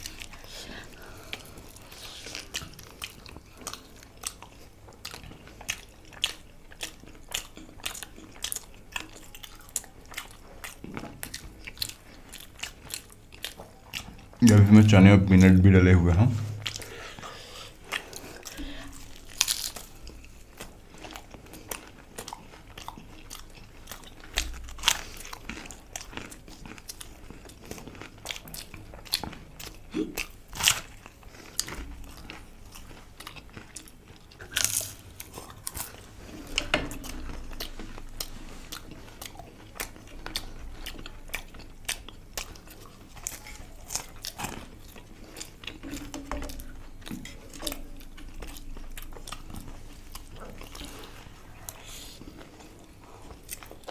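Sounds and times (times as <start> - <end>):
chewing crunchy fried food: 0.0 - 15.5, 16.4 - 53.9.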